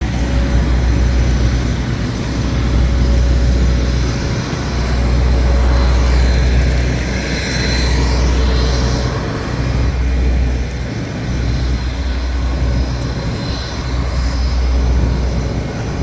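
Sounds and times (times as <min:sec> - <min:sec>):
jet airliner rumble and whine: 0:00.0 - 0:16.0.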